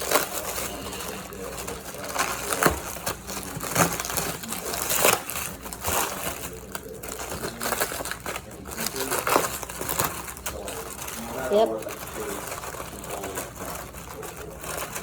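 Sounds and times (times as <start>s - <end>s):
packaging crinkling: 0.0s - 15.0s.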